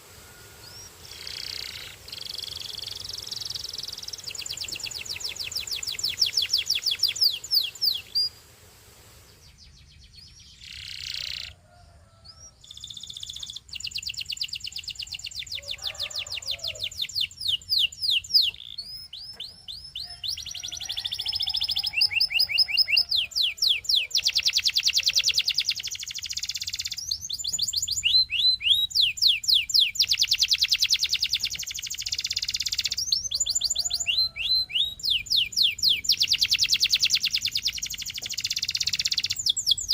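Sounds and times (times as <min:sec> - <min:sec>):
canary singing: 0:00.4 - 0:08.4, 0:09.3 - 0:39.9.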